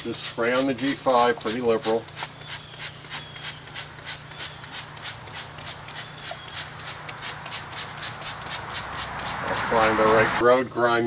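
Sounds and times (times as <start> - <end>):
spray bottle squirting: 0.0 - 10.4.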